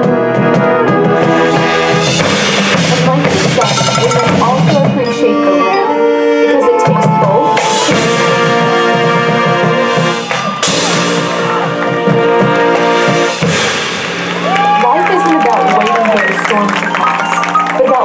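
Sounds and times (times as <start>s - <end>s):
marching band playing: 0.0s - 5.6s, 6.8s - 18.0s.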